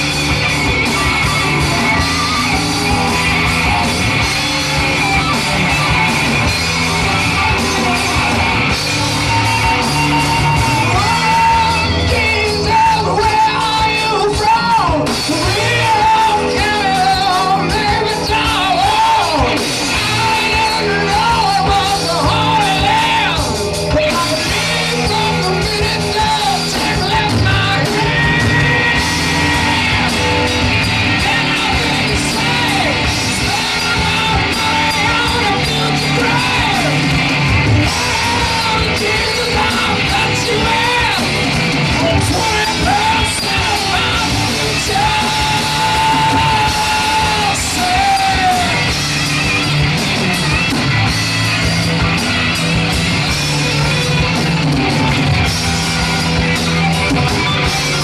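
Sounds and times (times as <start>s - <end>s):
live rock band: 0.0s - 58.0s
man singing and yelling: 0.0s - 58.0s.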